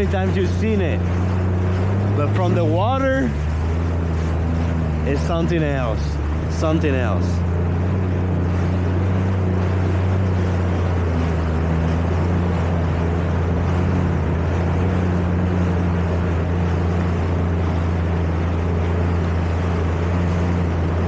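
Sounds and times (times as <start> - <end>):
jet ski engine drone: 0.0 - 21.0
water and wind rushing: 0.0 - 21.0.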